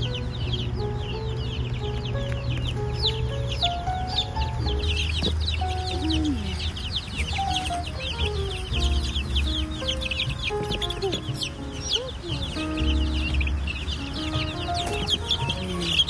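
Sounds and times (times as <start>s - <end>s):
chicks peeping: 0.0s - 16.0s
slow background melody: 0.0s - 16.0s.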